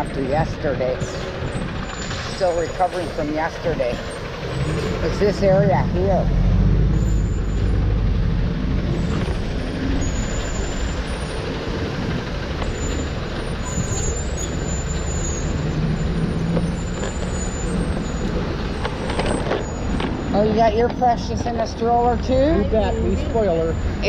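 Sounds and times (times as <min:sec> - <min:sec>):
street cleaning truck running: 0:00.0 - 0:24.0.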